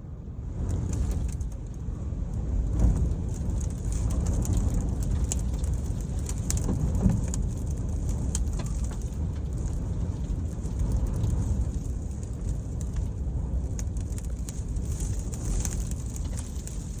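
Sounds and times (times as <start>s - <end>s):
gusting wind buffeting microphone: 0.0s - 17.0s.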